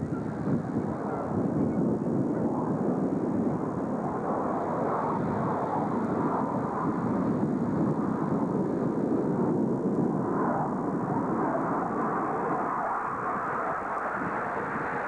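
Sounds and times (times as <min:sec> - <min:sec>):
distant jet noise: 0:00.0 - 0:15.0.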